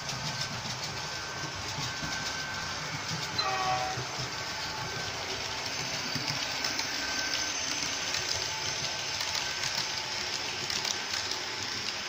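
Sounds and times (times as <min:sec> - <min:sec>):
model train running on rails: 0:00.0 - 0:12.0.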